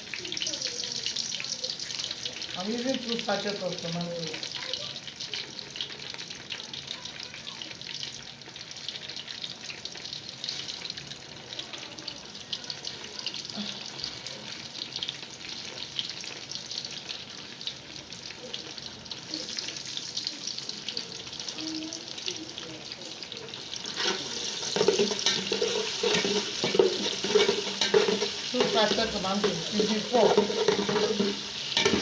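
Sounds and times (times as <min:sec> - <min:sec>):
tomato paste sizzling in oil: 0:00.0 - 0:32.0.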